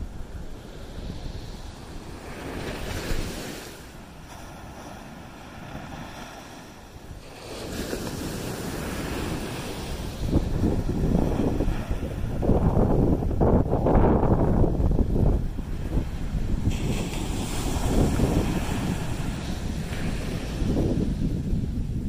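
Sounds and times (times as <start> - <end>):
ocean surf breaking: 0.0 - 21.8
wind rumbling on microphone: 0.0 - 22.0.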